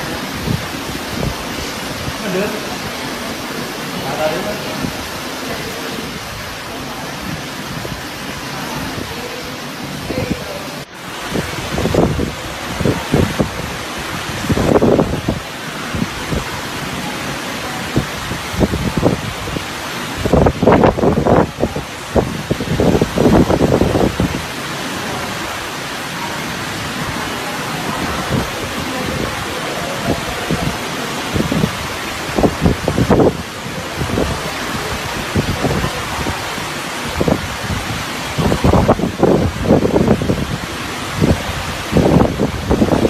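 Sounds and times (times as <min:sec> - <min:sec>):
faint voices: 0:00.0 - 0:43.0
rushing water: 0:00.0 - 0:43.0
wind on microphone: 0:00.0 - 0:43.0.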